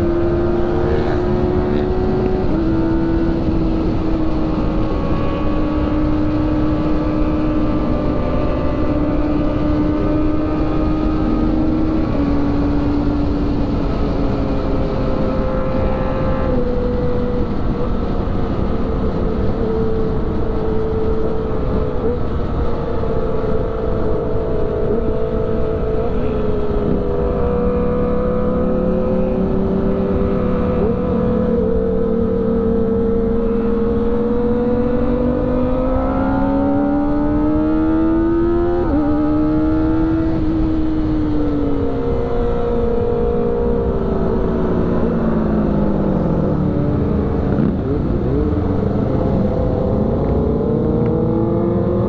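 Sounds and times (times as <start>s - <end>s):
wind rush: 0.0s - 27.2s, 36.4s - 52.0s
motorcycle engine revving: 0.0s - 52.0s.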